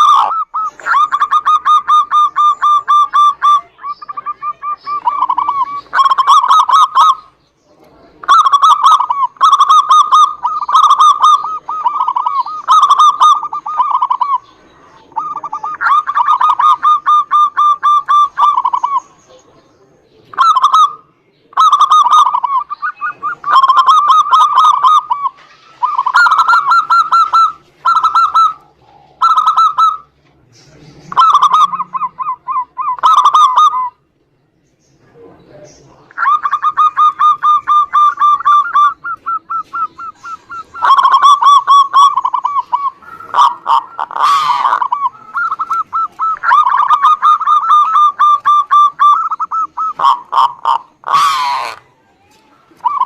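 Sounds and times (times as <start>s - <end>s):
doves cooing: 0.0s - 34.2s, 35.7s - 53.0s.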